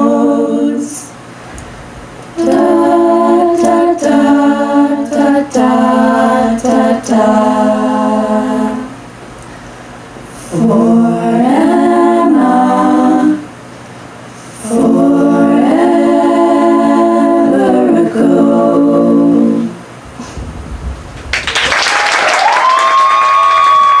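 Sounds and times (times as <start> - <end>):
a cappella group singing chords: 0.0 - 20.9.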